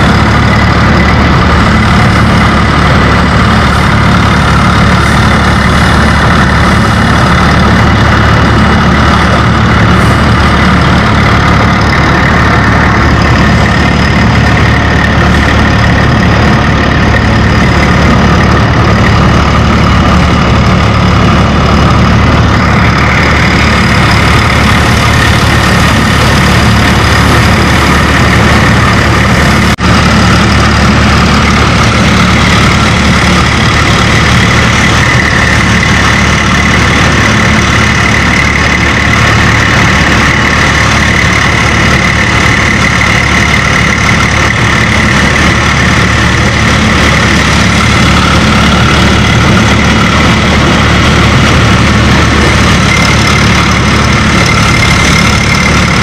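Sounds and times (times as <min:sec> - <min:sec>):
diesel tractor engine under load: 0:00.0 - 0:56.0
threshing machine chewing plants: 0:00.0 - 0:56.0.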